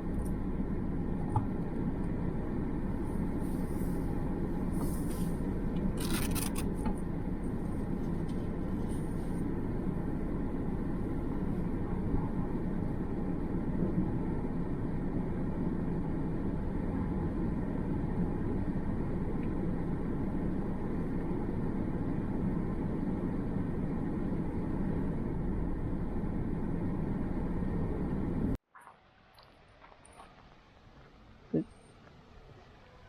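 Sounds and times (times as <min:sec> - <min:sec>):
vehicle running low rumble: 0:00.0 - 0:28.6.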